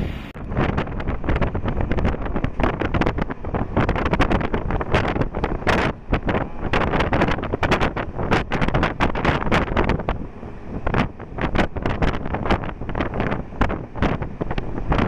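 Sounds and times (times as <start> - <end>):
train rumble: 0.0 - 15.0
wind buffeting microphone: 0.0 - 15.0.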